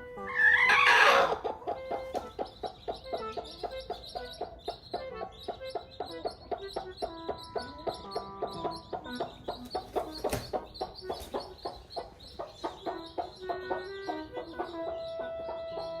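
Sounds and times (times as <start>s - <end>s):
hen clucking: 0.0s - 16.0s
background music with quick beat: 1.4s - 16.0s.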